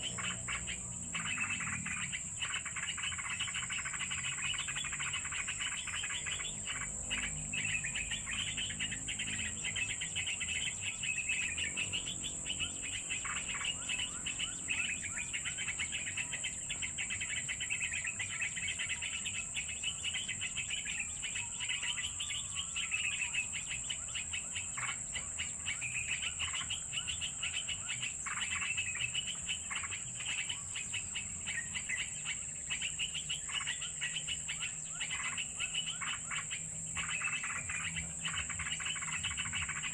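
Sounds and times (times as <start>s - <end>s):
birds twittering and chirping: 0.0s - 39.9s
high insect drone: 0.0s - 39.9s.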